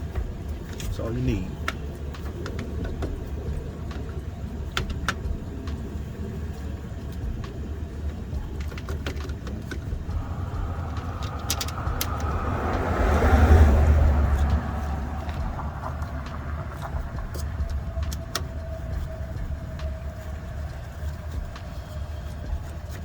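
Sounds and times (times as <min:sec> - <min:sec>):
rush of noise: 0:00.0 - 0:23.0
steady low rumble: 0:00.0 - 0:23.0.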